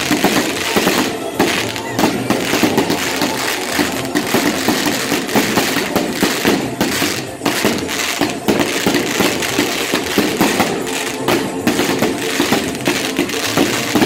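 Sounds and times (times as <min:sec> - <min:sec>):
fireworks crackling and popping: 0:00.0 - 0:14.0
spark fountains hissing: 0:00.0 - 0:14.0.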